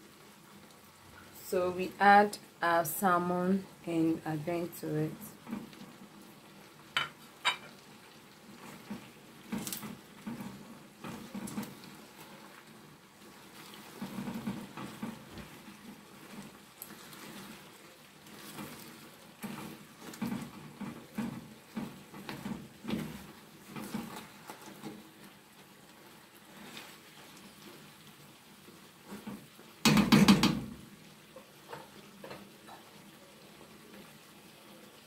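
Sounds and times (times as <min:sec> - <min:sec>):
spatula stirring wet squelches: 0:00.0 - 0:35.0
stew simmering and bubbling: 0:00.0 - 0:35.0.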